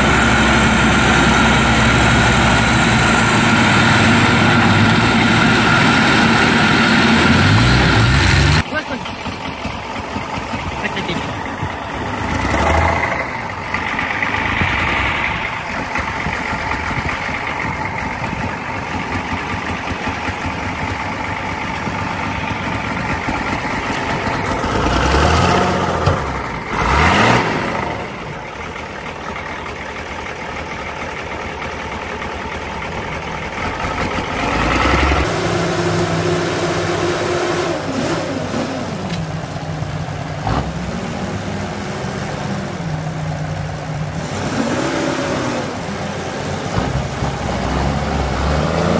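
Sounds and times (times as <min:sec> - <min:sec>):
steady engine drone: 0:00.0 - 0:48.9
truck engine revving under load: 0:00.0 - 0:48.9.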